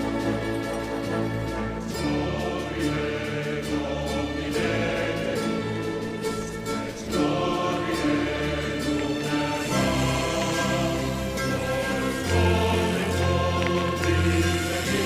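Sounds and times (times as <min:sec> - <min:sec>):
choir singing sustained chords: 0:00.0 - 0:15.0
orchestral accompaniment: 0:00.0 - 0:15.0.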